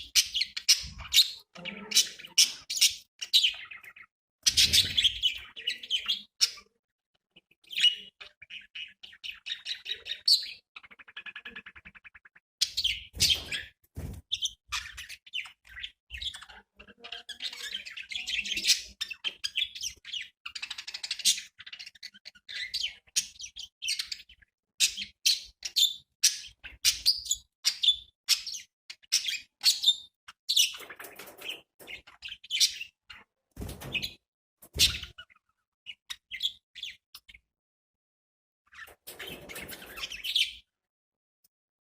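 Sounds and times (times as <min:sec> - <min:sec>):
budgerigars chirping and warbling: 0:00.0 - 0:37.4, 0:38.7 - 0:40.7.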